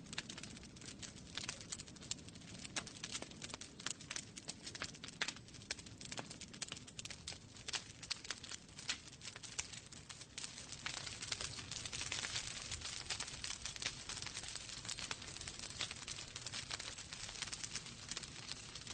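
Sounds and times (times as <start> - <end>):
fireplace fire crackling: 0.0 - 18.9.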